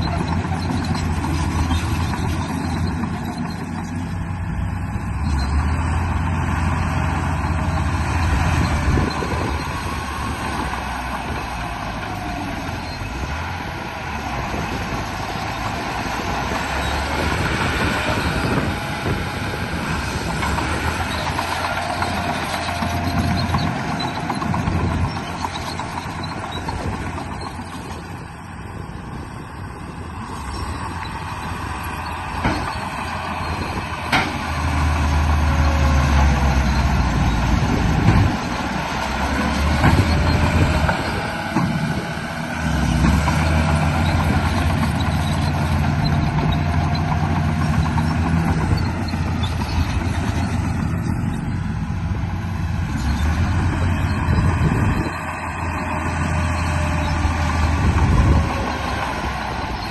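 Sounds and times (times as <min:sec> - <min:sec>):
toy bulldozer engine rumble: 0:00.0 - 0:59.9.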